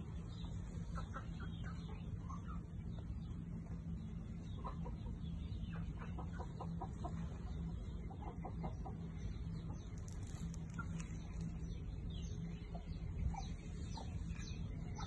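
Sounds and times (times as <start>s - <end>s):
steady low hum: 0.0s - 15.0s
chickens clucking: 0.1s - 15.0s.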